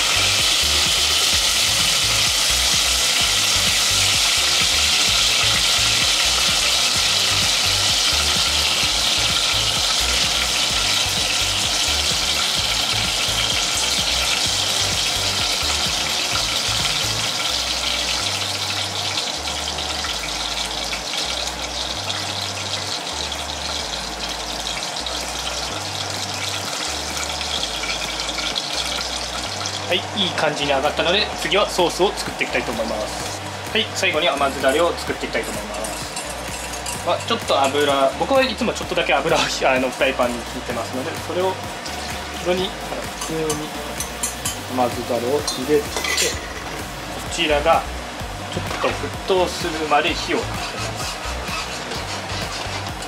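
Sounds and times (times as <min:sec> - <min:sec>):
pork frying in oil: 0:00.0 - 0:53.0.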